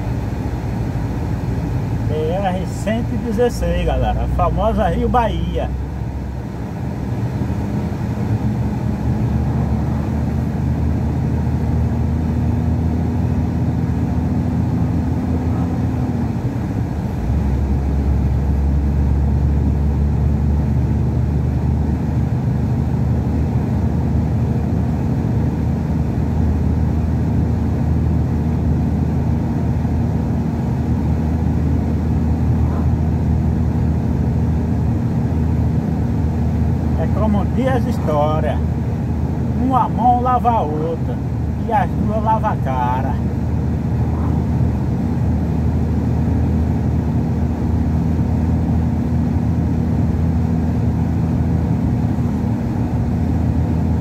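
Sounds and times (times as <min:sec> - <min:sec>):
truck engine drone: 0:00.0 - 0:54.0.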